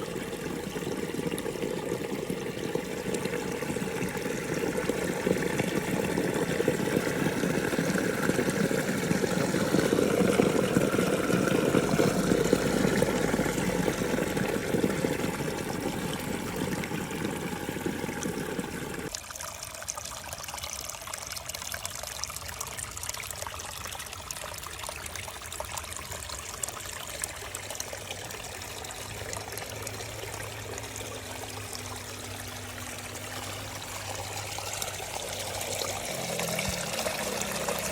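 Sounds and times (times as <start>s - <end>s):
small waterfall splashing: 0.0s - 37.9s.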